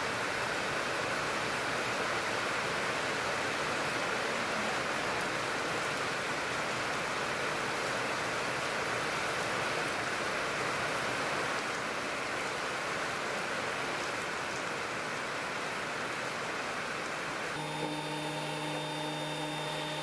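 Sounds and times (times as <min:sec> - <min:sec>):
water pouring off a roof: 0:00.0 - 0:17.4.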